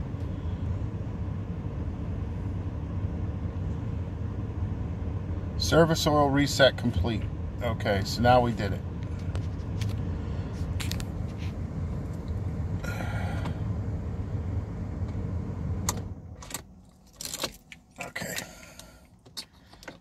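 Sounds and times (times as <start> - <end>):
car interior low hum: 0.0 - 20.0.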